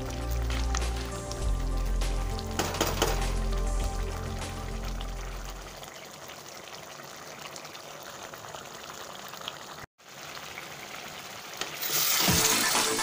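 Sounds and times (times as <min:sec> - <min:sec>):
syrup bubbling in a pan: 0:00.0 - 0:13.0.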